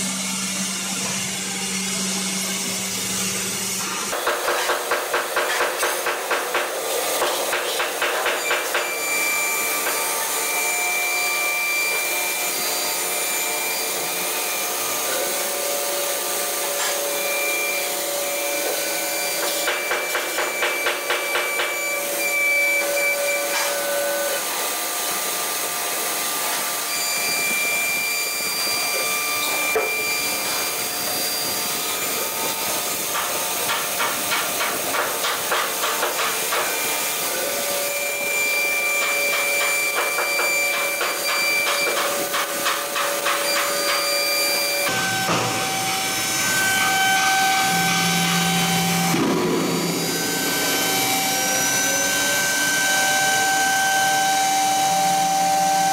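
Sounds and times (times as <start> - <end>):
router spindle running: 0.0 - 55.9.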